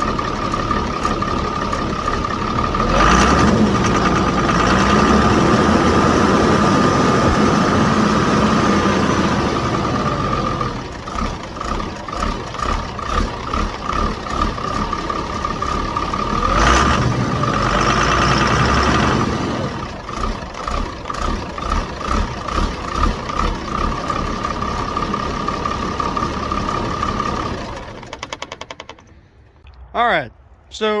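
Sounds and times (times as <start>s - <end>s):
diesel engine revving: 0.0s - 30.6s.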